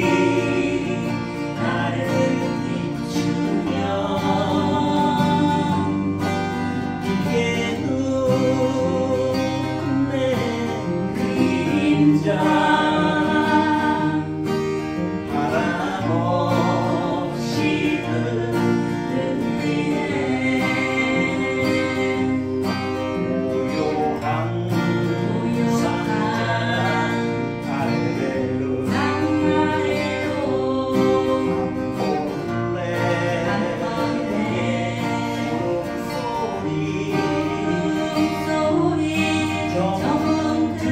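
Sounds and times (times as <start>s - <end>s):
acoustic guitar: 0.0s - 40.9s
person singing with vibrato: 0.0s - 40.9s.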